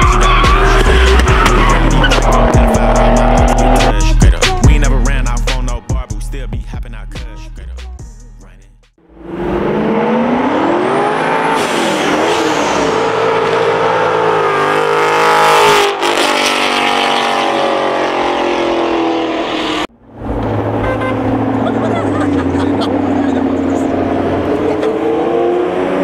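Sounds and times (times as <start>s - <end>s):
car engine revving hard: 0.0s - 4.0s, 9.0s - 26.0s.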